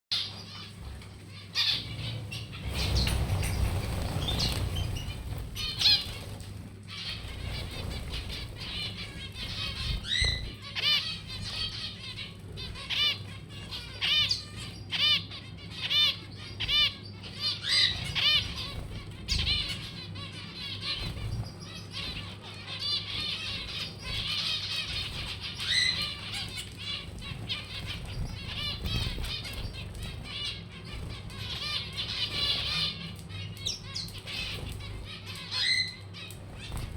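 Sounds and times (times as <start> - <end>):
canary singing trills: 0.1 - 36.9
steady low hum: 0.1 - 36.9
wings fluttering: 0.1 - 36.9.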